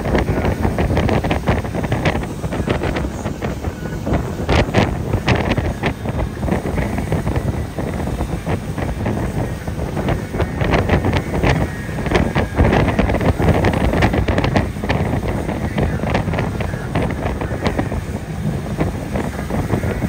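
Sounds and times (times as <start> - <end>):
boat engine: 0.0 - 20.0
rushing water of boat wake: 0.0 - 20.0
water slapping: 0.0 - 20.0
wind buffeting microphone: 0.0 - 20.0.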